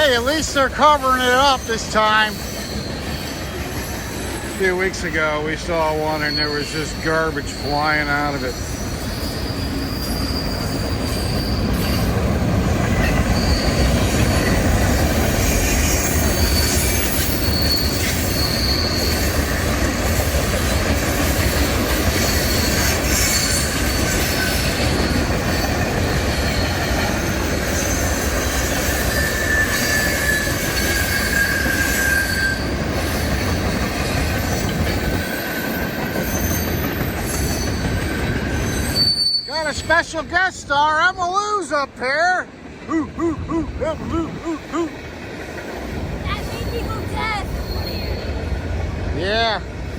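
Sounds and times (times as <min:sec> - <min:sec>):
train wheels squealing: 0:00.0 - 0:40.3, 0:46.3 - 0:49.6
freight train rumbling past: 0:00.0 - 0:49.9.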